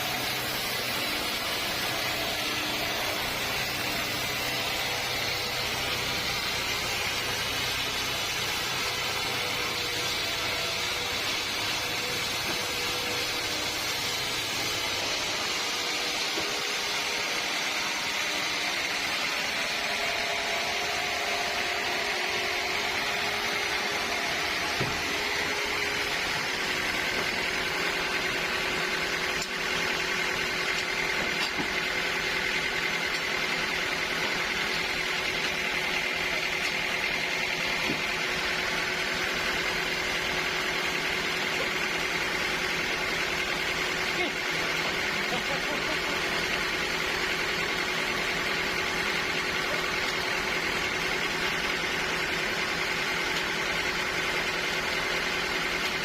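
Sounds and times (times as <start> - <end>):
sawmill saw running: 0.0 - 56.0.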